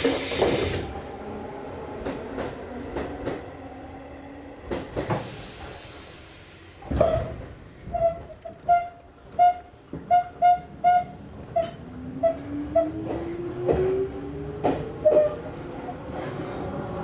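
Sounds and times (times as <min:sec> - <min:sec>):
train interior rumble: 0:00.0 - 0:17.0.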